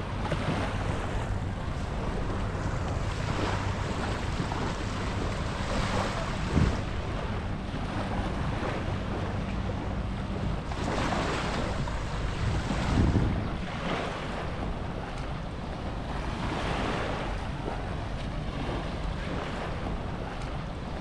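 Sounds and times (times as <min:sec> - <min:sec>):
low steady hum: 0:00.0 - 0:21.0
waves washing onto beach: 0:00.0 - 0:21.0
wind buffeting microphone: 0:00.0 - 0:21.0.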